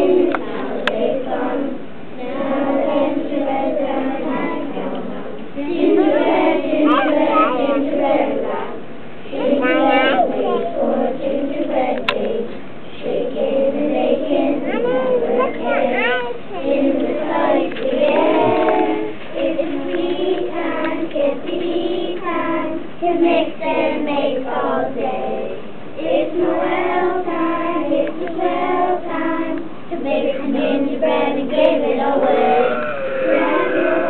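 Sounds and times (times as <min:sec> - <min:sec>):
children singing together: 0:00.0 - 0:34.0.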